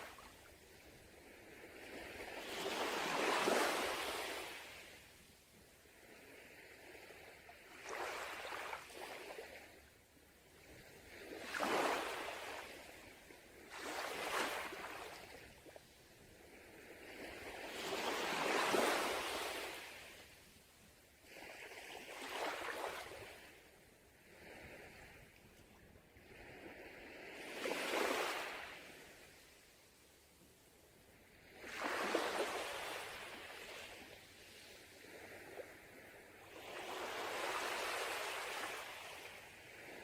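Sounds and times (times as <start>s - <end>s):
small waves breaking on beach: 0.0s - 40.0s.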